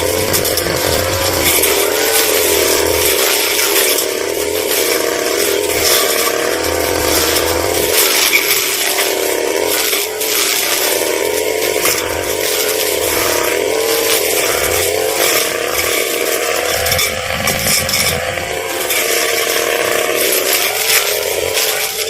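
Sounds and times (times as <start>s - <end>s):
blade cutting grass: 0.0s - 22.0s
brush cutter engine at high revs: 0.0s - 22.0s.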